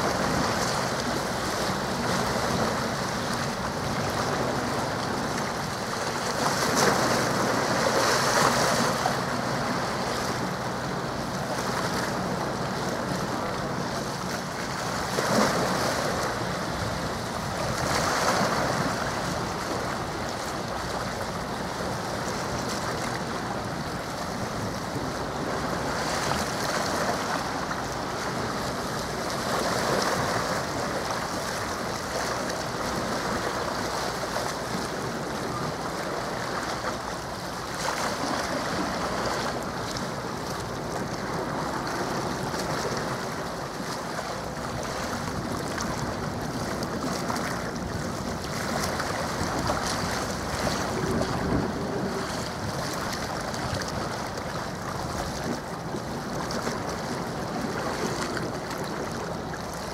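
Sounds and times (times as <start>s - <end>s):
sea water washing on shore: 0.0s - 59.9s
wind on microphone: 0.0s - 59.9s.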